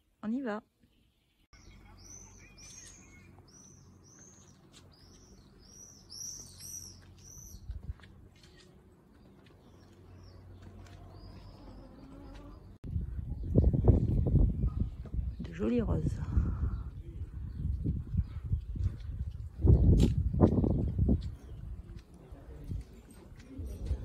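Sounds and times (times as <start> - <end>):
small birds chirping: 0.3 - 24.0.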